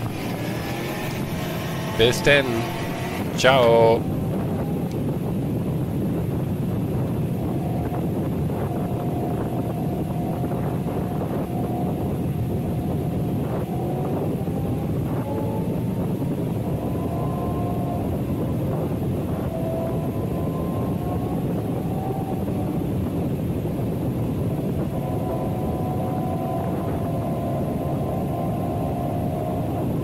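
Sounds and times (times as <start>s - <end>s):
faint rising whine: 0.0s - 30.0s
quad engine running: 0.0s - 30.0s
wind noise on microphone: 0.0s - 30.0s.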